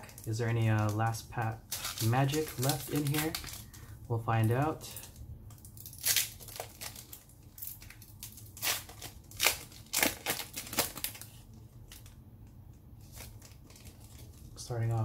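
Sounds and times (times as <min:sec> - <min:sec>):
foil wrapper crinkling and tearing: 0:00.0 - 0:12.2, 0:13.0 - 0:14.6.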